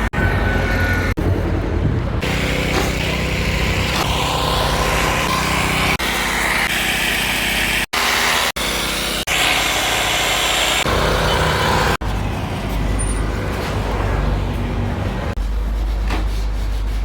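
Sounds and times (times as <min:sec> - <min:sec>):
engine running: 0:00.0 - 0:15.4.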